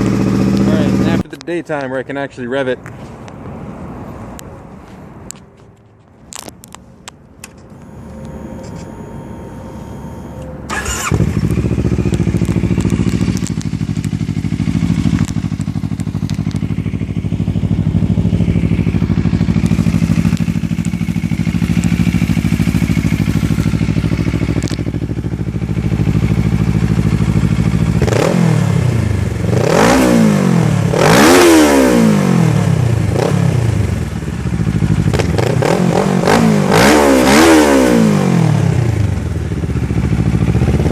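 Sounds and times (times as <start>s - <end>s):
motorcycle engine idling and revving: 0.0s - 1.9s, 6.0s - 40.9s.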